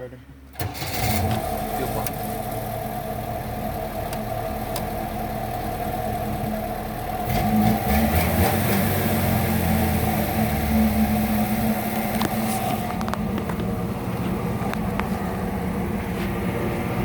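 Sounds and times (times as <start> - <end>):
car engine running: 0.4 - 17.0.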